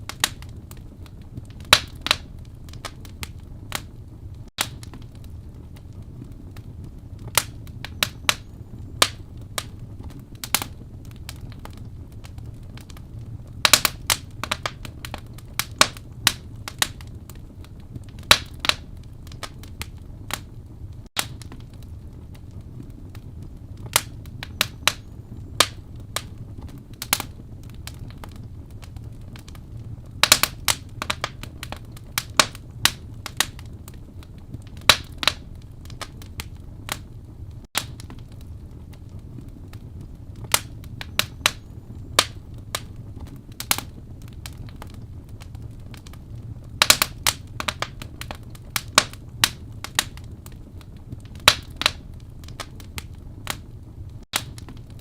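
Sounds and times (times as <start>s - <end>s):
low steady rumble: 0.0s - 55.0s
wood fire crackling: 0.0s - 55.0s.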